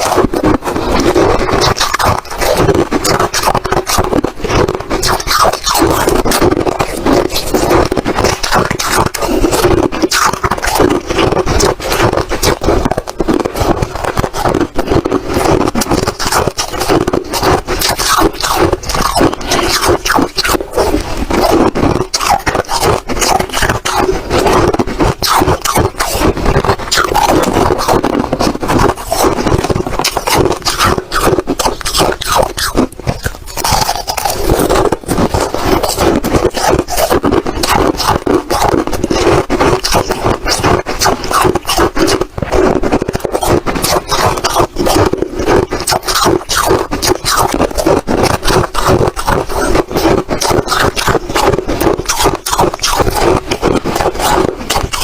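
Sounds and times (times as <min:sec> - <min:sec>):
ice crunching and crackling: 0:00.0 - 0:55.0.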